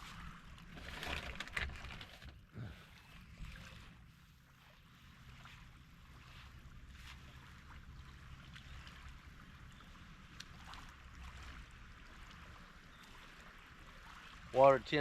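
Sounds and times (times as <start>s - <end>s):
gentle water sounds: 0.0s - 15.0s.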